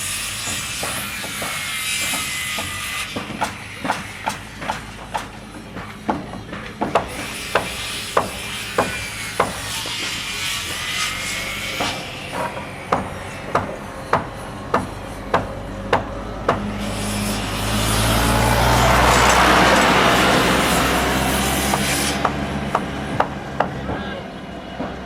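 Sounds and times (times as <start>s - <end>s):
hammer striking: 0.1s - 24.0s.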